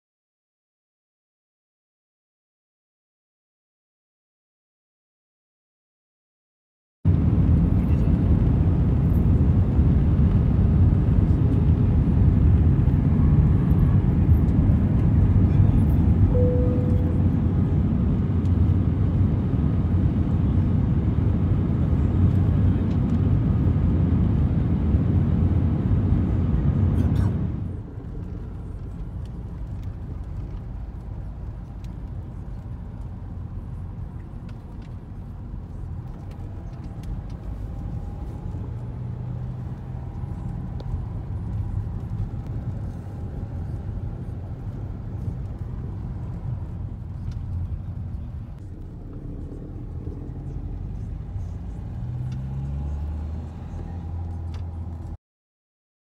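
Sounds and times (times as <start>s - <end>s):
car engine and tyre rumble: 7.1s - 55.2s.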